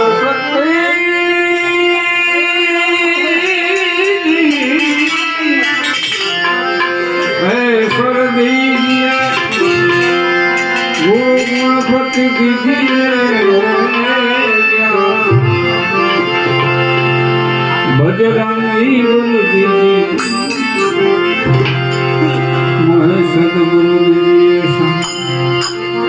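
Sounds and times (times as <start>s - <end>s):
person singing: 0.0s - 16.9s, 17.7s - 25.2s
tabla rhythm: 0.0s - 18.4s, 19.0s - 23.4s, 24.7s - 26.0s
harmonium tones: 0.0s - 26.0s.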